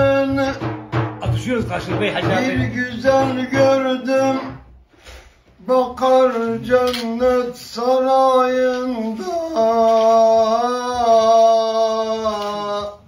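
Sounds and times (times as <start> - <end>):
man singing unaccompanied: 0.0 - 4.7, 5.5 - 13.0.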